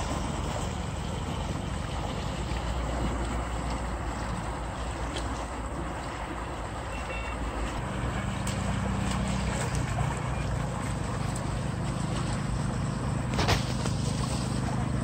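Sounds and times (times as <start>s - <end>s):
low steady hum: 0.0s - 15.0s
water rushing from a pipe: 0.0s - 15.0s.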